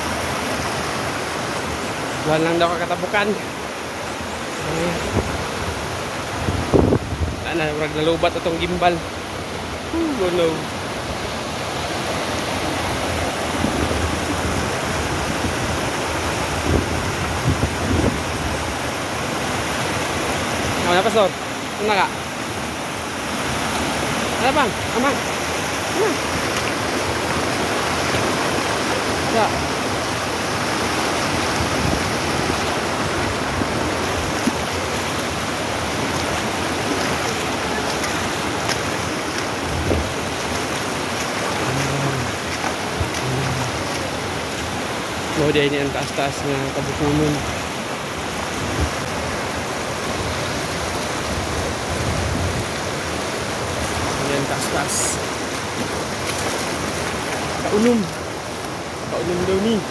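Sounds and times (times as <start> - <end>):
river rushing over boulders: 0.0 - 59.9.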